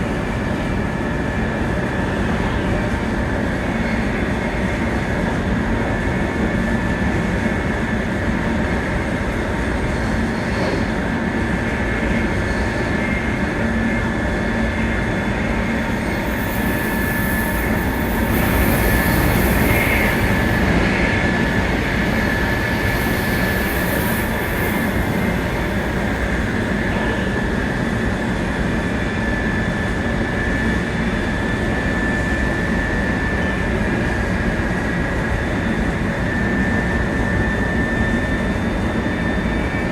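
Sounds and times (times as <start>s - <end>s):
high train whine: 0.0s - 39.9s
train wheels rumbling on rail: 0.0s - 39.9s.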